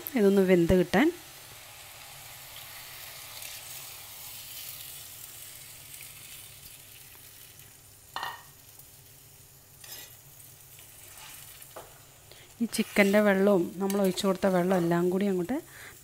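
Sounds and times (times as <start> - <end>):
food sizzling in hot pot: 0.0 - 16.0.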